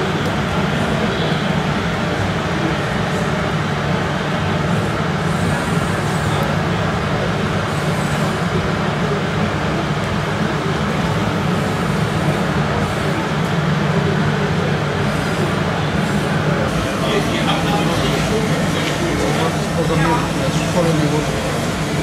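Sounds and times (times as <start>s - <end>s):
indoor hall background noise: 0.0s - 22.0s
model machines engine drone: 0.0s - 22.0s.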